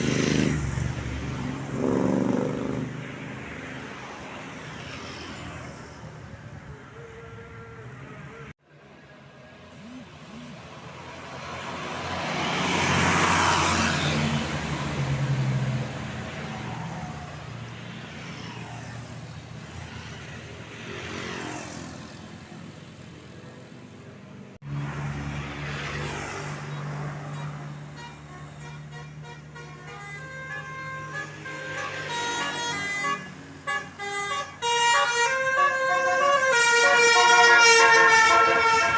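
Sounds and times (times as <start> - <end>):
buses passing on road: 0.0 - 38.9.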